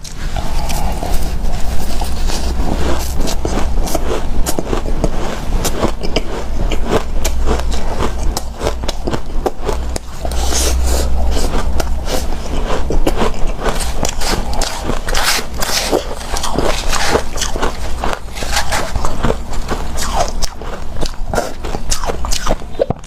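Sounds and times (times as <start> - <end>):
chewing crunchy ice: 0.0 - 23.0
steady low rumble: 0.0 - 23.0.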